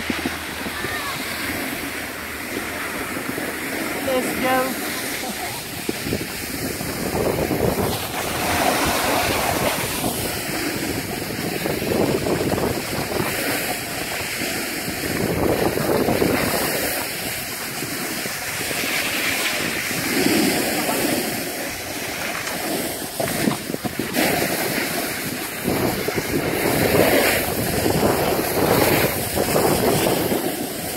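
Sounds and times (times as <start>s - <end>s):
skis scraping over packed snow: 0.0s - 30.9s
wind on microphone: 0.0s - 30.9s.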